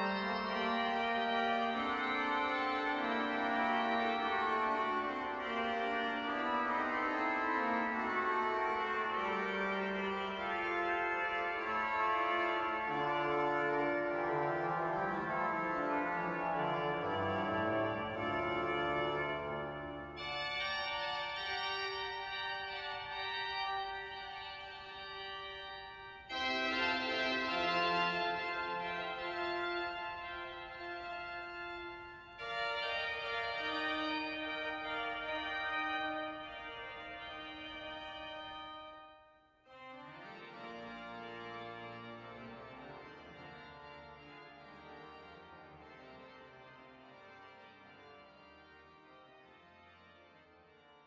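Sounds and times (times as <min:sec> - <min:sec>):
pipe organ playing chords: 0:00.0 - 0:51.0.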